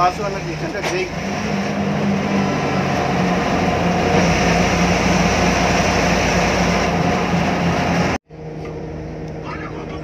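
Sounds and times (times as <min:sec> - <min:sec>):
bus engine drone: 0:00.0 - 0:10.0
road noise rushing: 0:00.0 - 0:10.0.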